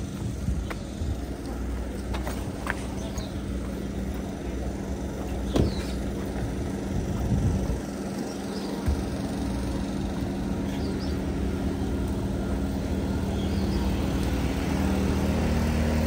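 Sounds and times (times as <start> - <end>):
idling vehicle engines humming: 0.0 - 16.0.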